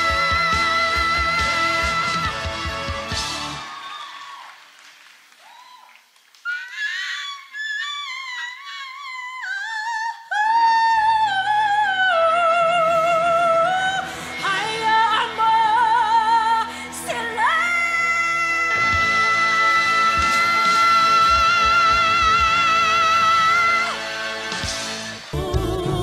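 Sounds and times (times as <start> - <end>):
soprano singing: 0.0 - 3.3, 7.6 - 24.6, 25.3 - 26.0.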